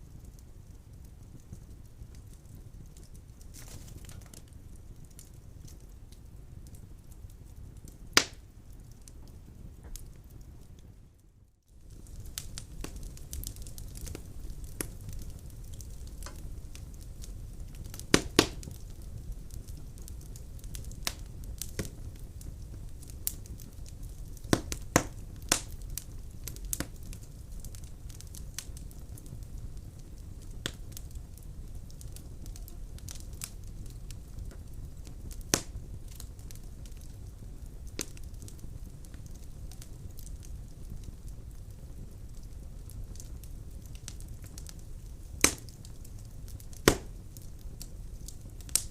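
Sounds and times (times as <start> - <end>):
fire rumbling: 0.0 - 48.9
logs crackling and popping: 0.0 - 48.9.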